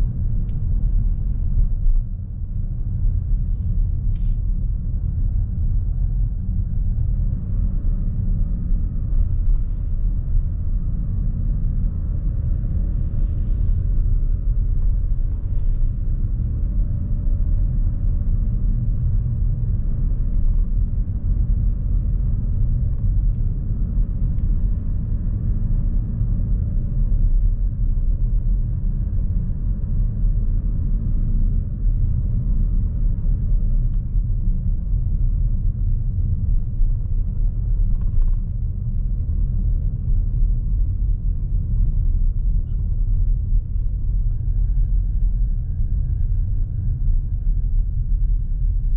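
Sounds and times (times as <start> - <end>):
road and tyre rumble in car cabin: 0.0 - 48.9.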